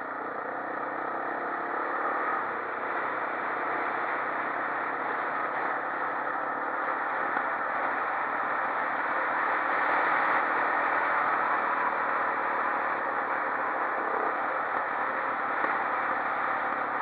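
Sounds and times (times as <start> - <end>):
quad bike engine: 0.0 - 17.0
wind and road noise: 0.0 - 17.0
quad bike rattling: 0.1 - 17.0.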